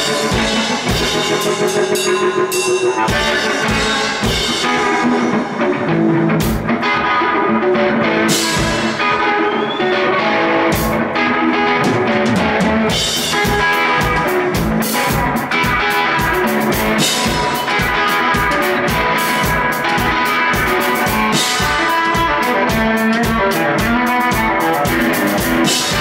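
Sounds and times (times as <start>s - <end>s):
drum kit beating: 0.0s - 26.0s
electric guitar: 0.0s - 26.0s.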